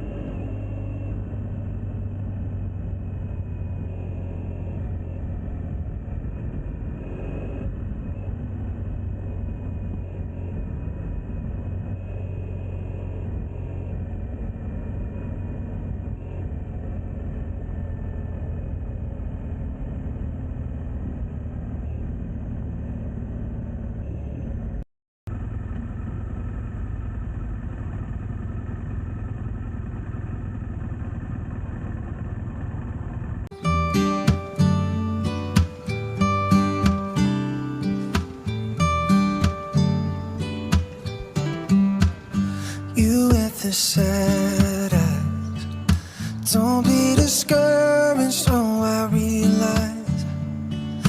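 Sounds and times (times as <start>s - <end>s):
motorcycle engine cruising: 0.0s - 51.0s
wind: 0.0s - 51.0s.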